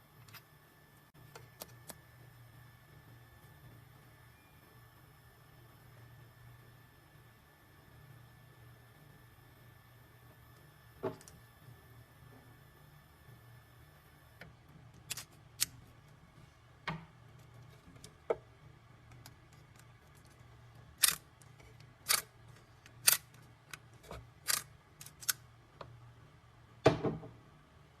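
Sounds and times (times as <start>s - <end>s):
faint high machine whine: 0.0s - 28.0s.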